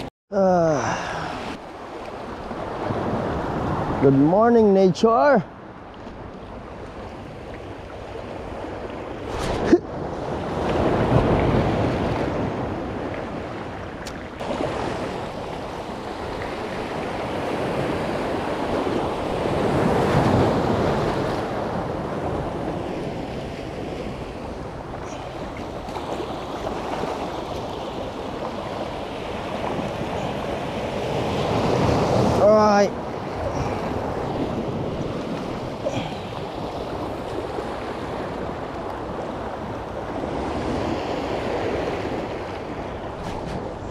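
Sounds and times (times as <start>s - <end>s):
wind on microphone: 7.9s - 43.9s
waves washing over rocks: 8.2s - 43.9s.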